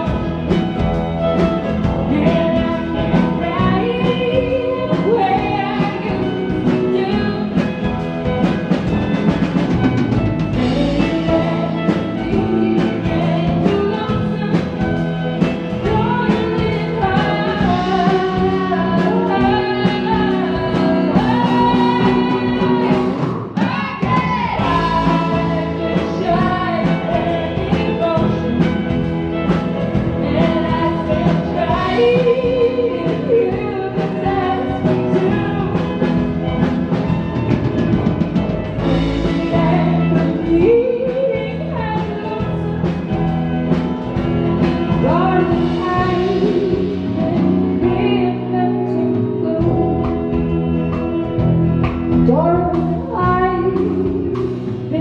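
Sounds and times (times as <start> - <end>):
person singing: 0.0 - 51.4, 52.2 - 55.0
live country-rock band playing: 0.0 - 55.0.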